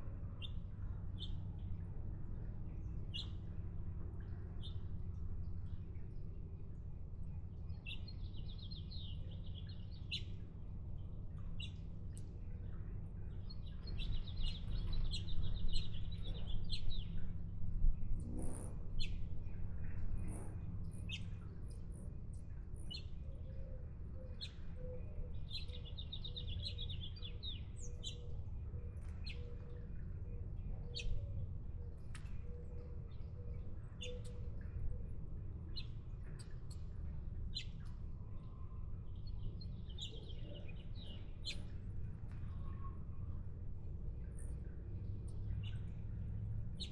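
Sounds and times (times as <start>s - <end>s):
songbirds chirping: 0.3s - 46.9s.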